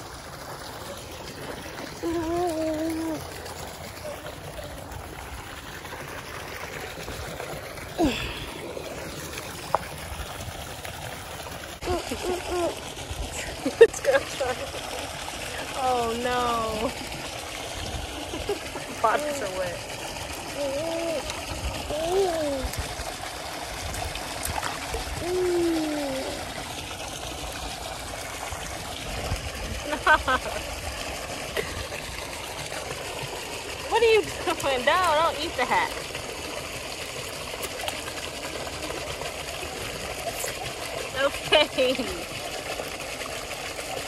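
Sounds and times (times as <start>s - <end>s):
pool water trickling: 0.0s - 44.0s.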